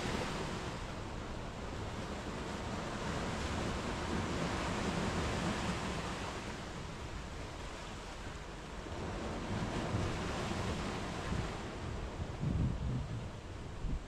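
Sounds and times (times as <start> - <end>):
surf washing up a beach: 0.0 - 14.0.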